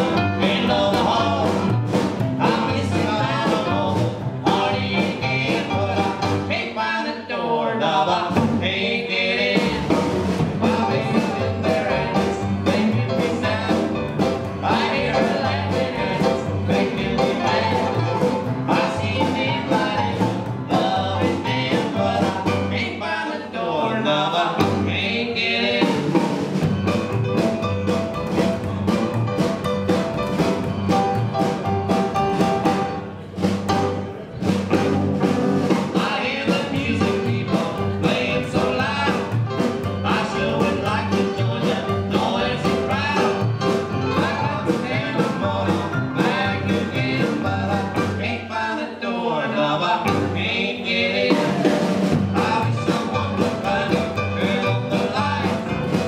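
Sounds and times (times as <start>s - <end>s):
two men singing in harmony: 0.0s - 26.4s, 35.7s - 56.0s
drums: 0.0s - 49.0s, 49.6s - 56.0s
guitar: 0.0s - 56.0s
upright bass: 0.0s - 56.0s.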